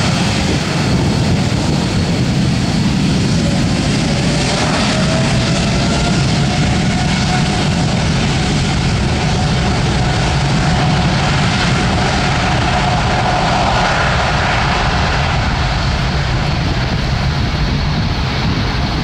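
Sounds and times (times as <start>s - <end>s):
faint engine whine: 0.0s - 19.0s
jet engines rumbling: 0.0s - 19.0s.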